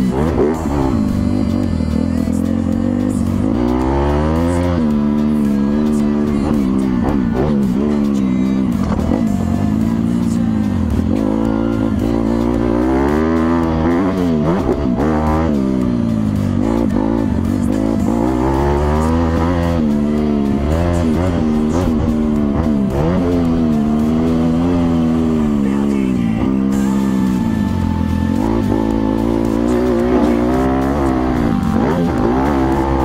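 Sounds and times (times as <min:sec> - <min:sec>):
background music: 0:00.0 - 0:33.0
dirt bike engine revving: 0:00.0 - 0:33.0.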